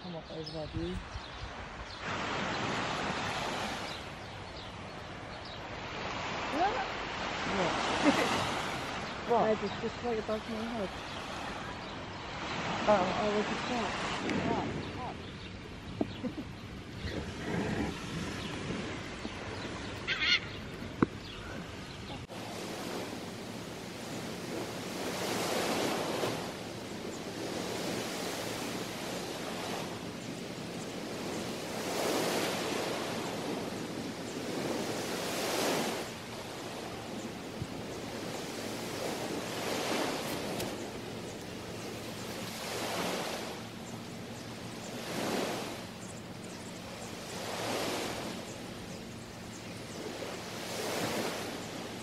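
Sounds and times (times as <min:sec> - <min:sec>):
small waves washing on beach: 0:00.0 - 0:52.0
hiss of surf: 0:02.0 - 0:15.4, 0:21.2 - 0:52.0.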